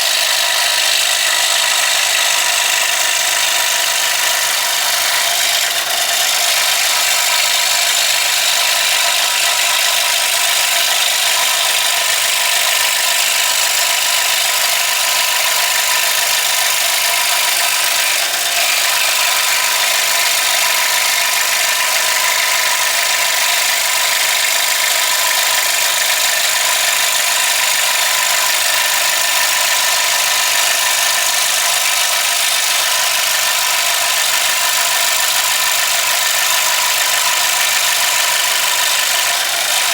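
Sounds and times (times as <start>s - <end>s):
power saw cutting board: 0.0s - 39.9s.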